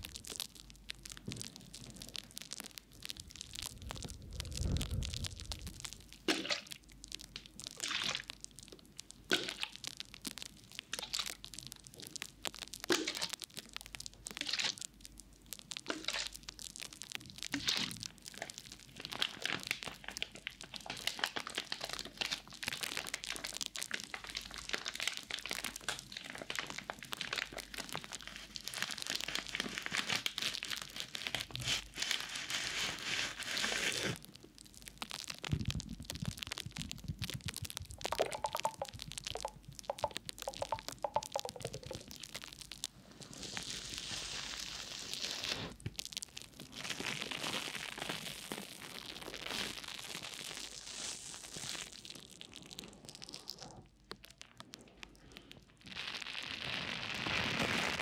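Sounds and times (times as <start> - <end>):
crinkly plastic packaging: 0.0 - 58.0.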